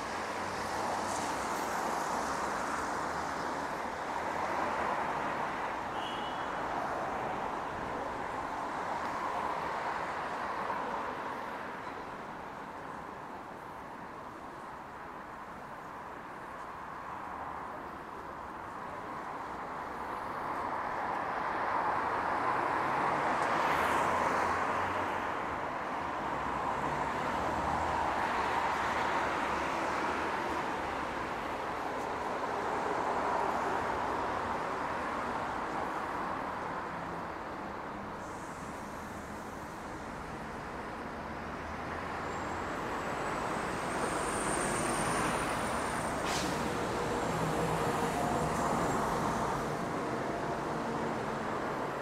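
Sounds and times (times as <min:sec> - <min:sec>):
cars passing on city road: 0:00.0 - 0:52.0.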